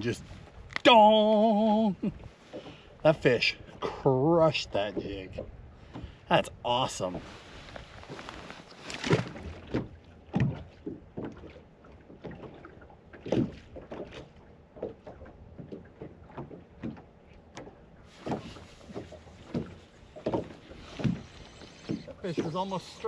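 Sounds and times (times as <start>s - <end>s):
small waves slapping boat hull: 0.0s - 23.0s.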